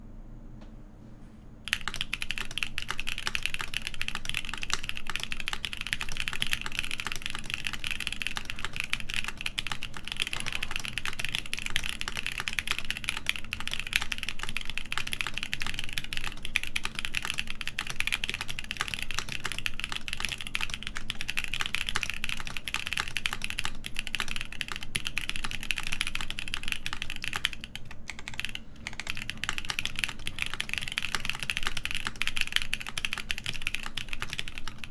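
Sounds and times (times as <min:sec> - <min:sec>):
fast mechanical keyboard typing: 0:01.7 - 0:34.9.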